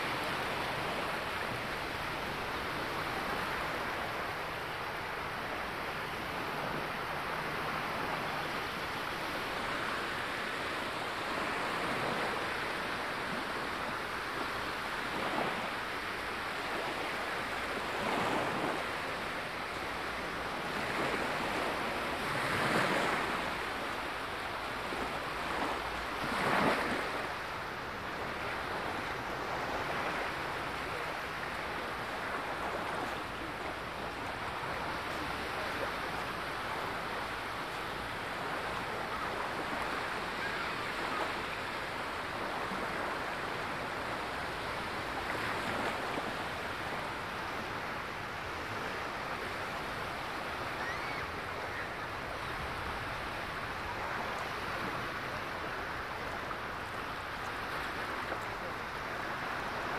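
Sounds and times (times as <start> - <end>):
waves washing onto sandy shore: 0.0 - 59.9.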